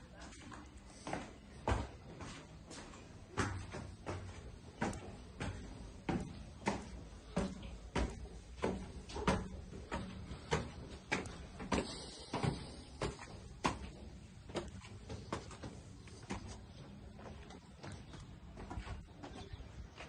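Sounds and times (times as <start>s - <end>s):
footsteps on concrete stairs: 0.1s - 20.0s.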